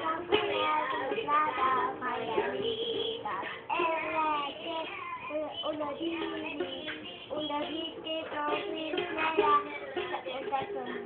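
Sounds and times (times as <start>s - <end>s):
young boy singing: 0.0s - 11.0s.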